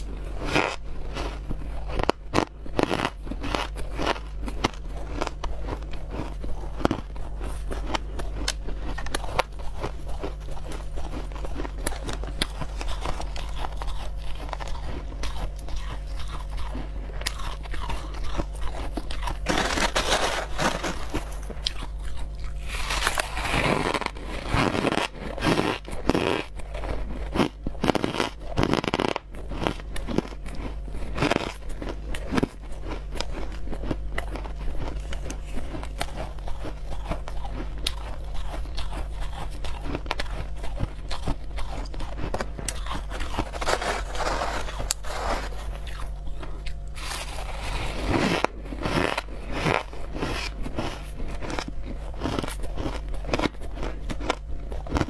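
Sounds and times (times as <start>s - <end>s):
ice crunching in mouth: 0.0s - 55.0s
low background hum: 0.0s - 55.0s.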